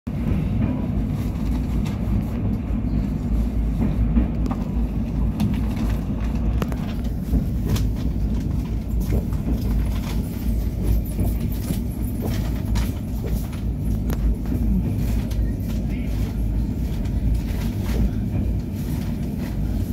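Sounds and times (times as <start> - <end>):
train wheels rumbling on rail: 0.1 - 19.9.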